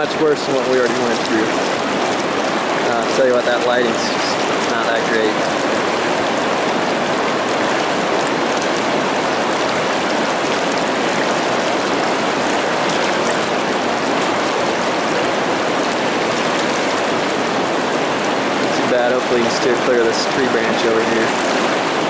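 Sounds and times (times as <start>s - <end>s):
river rapids rushing: 0.0s - 22.0s.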